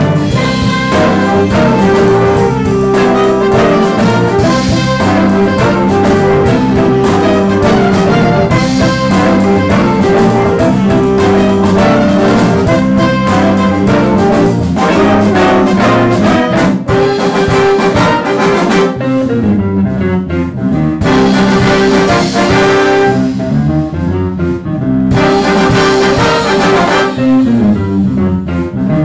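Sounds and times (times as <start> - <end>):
big band jazz: 0.0 - 29.0.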